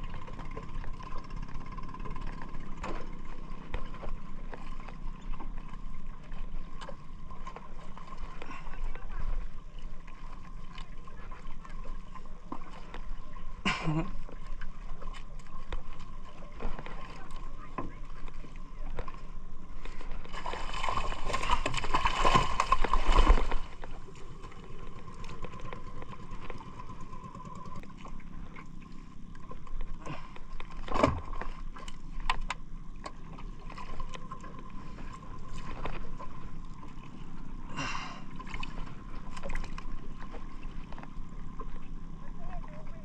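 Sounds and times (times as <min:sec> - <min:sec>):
water splashing and gurgling: 0:00.0 - 0:43.0.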